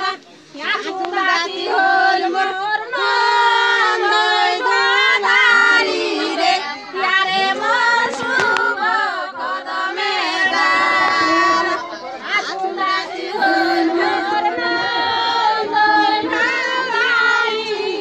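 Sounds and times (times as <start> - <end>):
women and children singing: 0.0 - 18.0.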